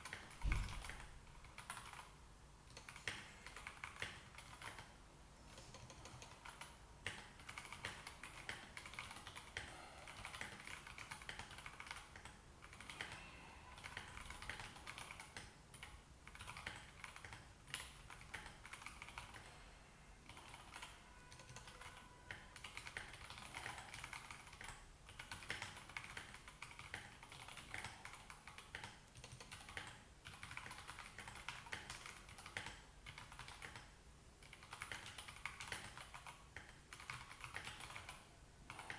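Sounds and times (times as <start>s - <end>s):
mechanical keyboard typing: 0.0s - 5.0s, 5.6s - 19.5s, 20.2s - 38.9s.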